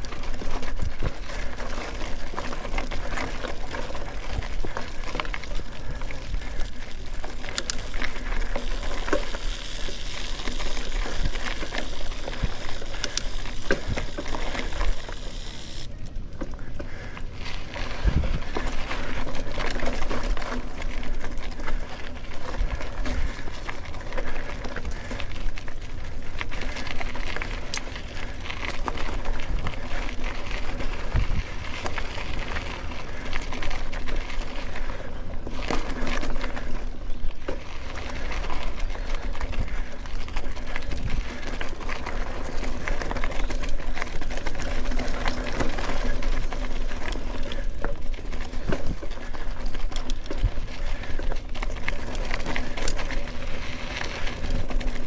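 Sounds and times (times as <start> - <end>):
bike clicking and rattling: 0.0 - 55.0
bike tyres on gravel trail: 0.0 - 55.0.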